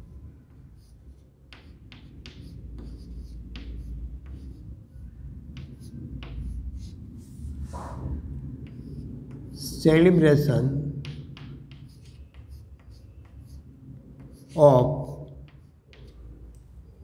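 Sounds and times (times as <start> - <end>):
low background hum: 0.0 - 17.0
chalk scratching on chalkboard: 0.6 - 9.5, 11.0 - 16.3.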